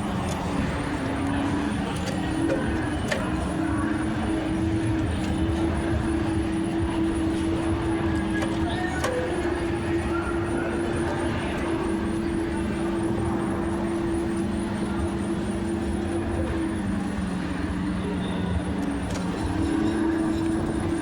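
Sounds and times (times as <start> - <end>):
go-kart motor droning: 0.0 - 21.0.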